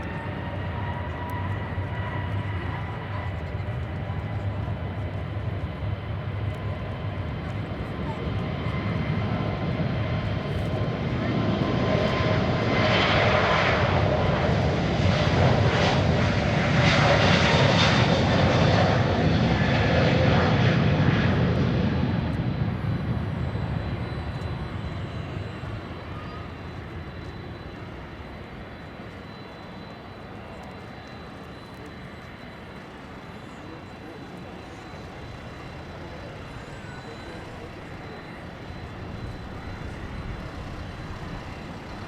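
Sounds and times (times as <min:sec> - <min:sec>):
jet engines roaring at take-off: 0:00.0 - 0:42.0.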